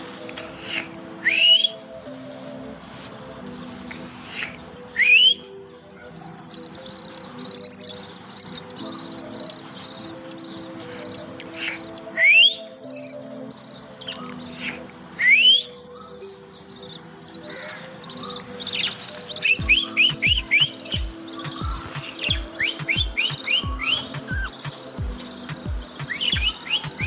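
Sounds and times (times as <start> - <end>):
faint background music: 0.0 - 27.0
parrot chicks chirping: 2.3 - 27.0.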